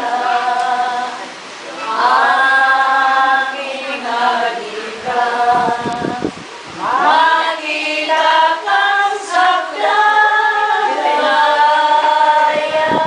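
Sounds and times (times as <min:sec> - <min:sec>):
women singing unaccompanied: 0:00.0 - 0:13.0.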